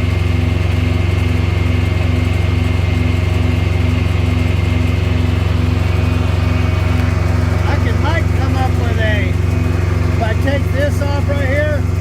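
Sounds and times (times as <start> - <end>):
engine idling with pulsing hum: 0.0 - 12.0.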